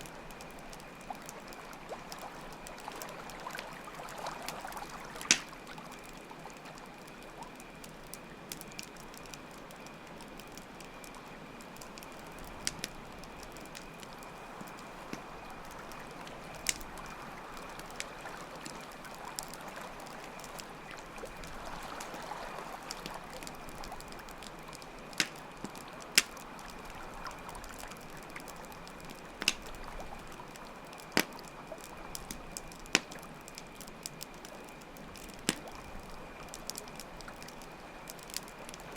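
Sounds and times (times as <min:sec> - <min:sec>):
campfire crackling pops: 0:00.0 - 0:38.9
crickets chirring: 0:00.0 - 0:38.9.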